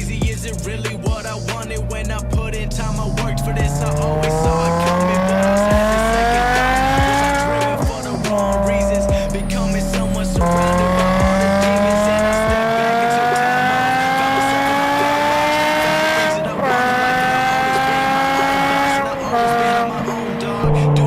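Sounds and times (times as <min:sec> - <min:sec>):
car exhaust accelerating hard: 0:00.0 - 0:21.0.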